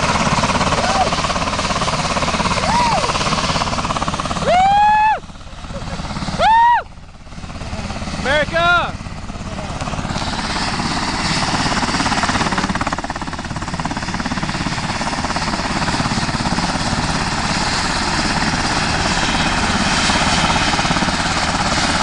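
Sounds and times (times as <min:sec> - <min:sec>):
helicopter rotor and engines running: 0:00.0 - 0:22.0.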